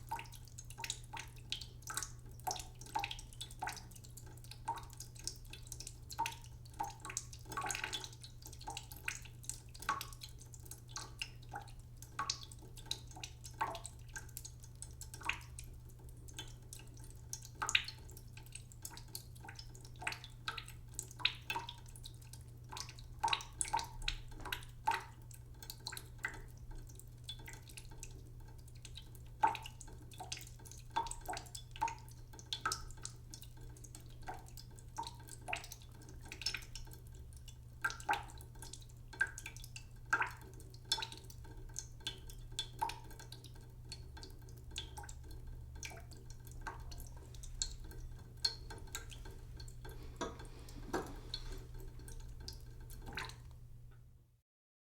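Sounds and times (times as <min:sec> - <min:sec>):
tap water dripping into pot: 0:00.0 - 0:54.1.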